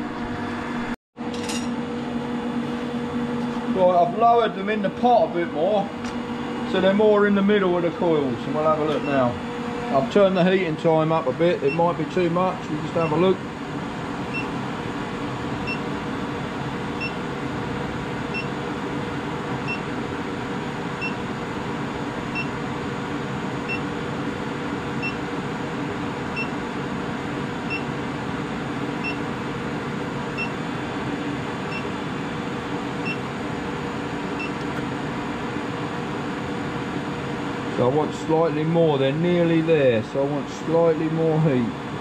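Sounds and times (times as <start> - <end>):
induction heater humming: 0.0 - 42.0.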